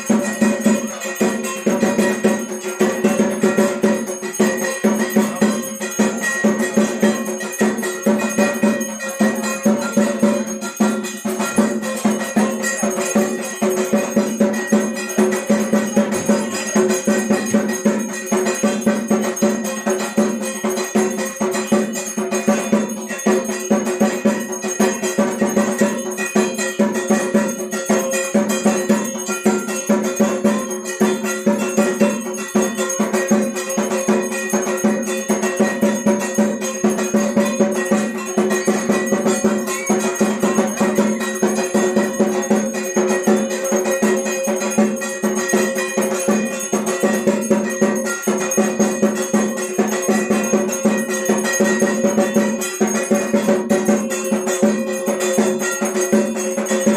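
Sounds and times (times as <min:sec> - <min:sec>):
temple bells clanging: 0:00.0 - 0:56.9.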